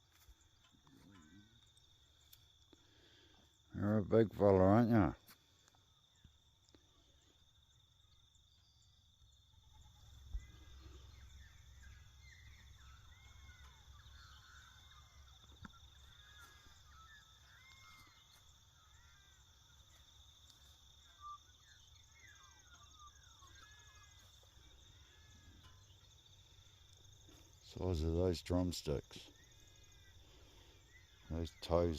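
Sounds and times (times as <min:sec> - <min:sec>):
small birds chirping: 0:00.0 - 0:31.9
steady high-pitched whine: 0:00.0 - 0:31.9.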